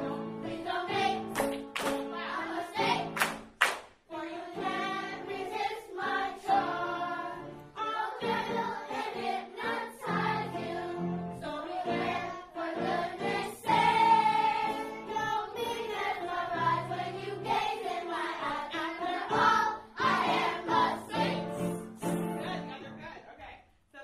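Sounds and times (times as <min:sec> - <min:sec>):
children's choir singing: 0:00.0 - 0:03.4, 0:04.1 - 0:21.9.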